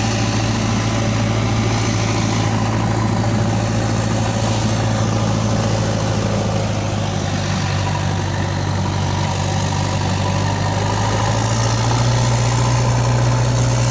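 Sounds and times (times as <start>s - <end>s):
toy backhoe engine hum: 0.0s - 13.9s.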